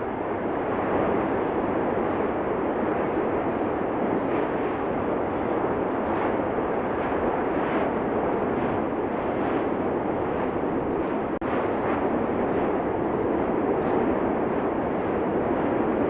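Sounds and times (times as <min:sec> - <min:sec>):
volcanic vent roaring: 0:00.0 - 0:16.0.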